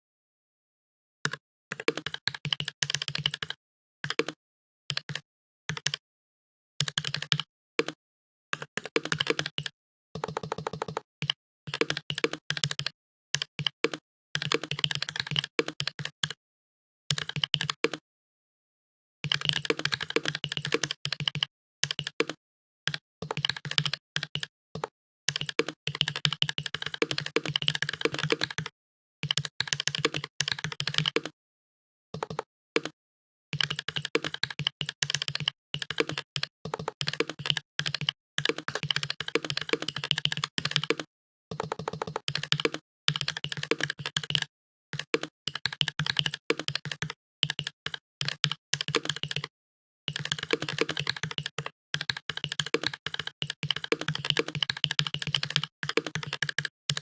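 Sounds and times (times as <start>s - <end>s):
typing on computer keyboard: 1.3s - 6.0s, 6.8s - 8.0s, 8.6s - 16.4s, 17.1s - 18.0s, 19.2s - 31.4s, 32.2s - 33.0s, 33.6s - 49.5s, 50.1s - 57.0s.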